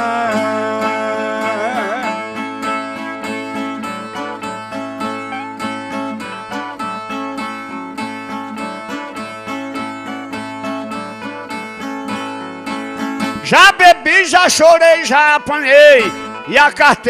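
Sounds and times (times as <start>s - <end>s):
plucked and strummed violas: 0.0s - 17.0s.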